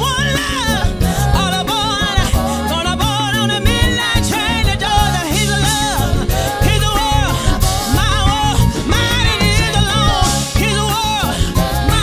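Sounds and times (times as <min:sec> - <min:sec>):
live soul band playing: 0:00.0 - 0:12.0
woman singing with vibrato: 0:00.0 - 0:12.0.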